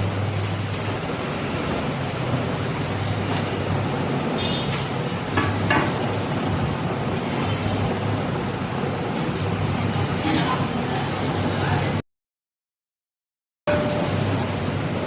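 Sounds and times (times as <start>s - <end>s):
machinery running: 0.0s - 12.0s, 13.7s - 15.0s.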